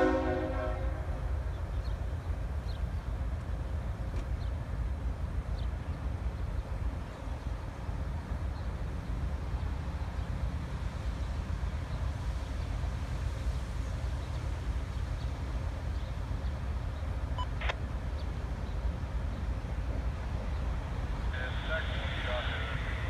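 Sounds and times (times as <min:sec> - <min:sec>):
diesel locomotives idling: 0:00.0 - 0:23.0.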